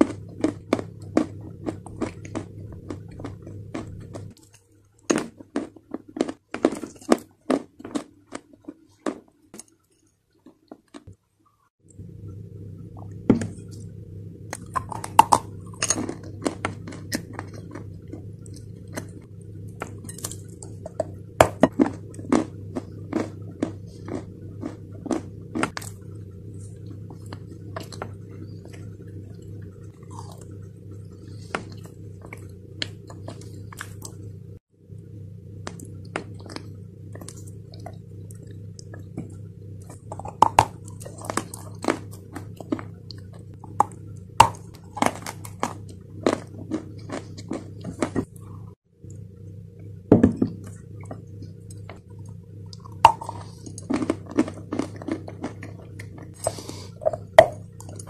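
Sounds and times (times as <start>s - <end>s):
chewing and crunching clay: 0.0s - 9.8s, 14.5s - 34.2s, 35.6s - 49.2s, 50.6s - 58.0s
steady low hum: 0.0s - 58.0s.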